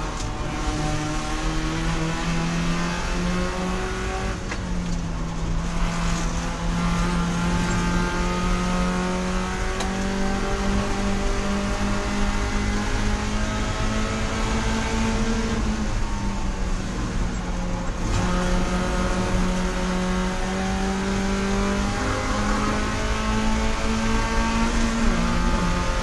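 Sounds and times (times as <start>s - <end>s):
race car engine running hard: 0.0s - 26.0s.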